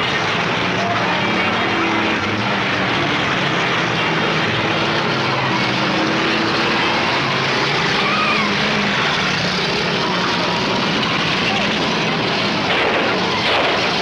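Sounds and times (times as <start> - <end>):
many car engines running: 0.0 - 14.0.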